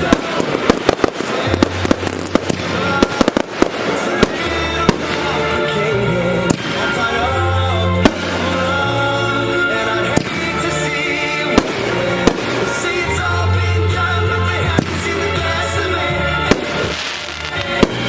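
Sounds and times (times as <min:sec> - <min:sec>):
fireworks bursting: 0:00.0 - 0:18.0
music with deep bass: 0:00.0 - 0:18.0.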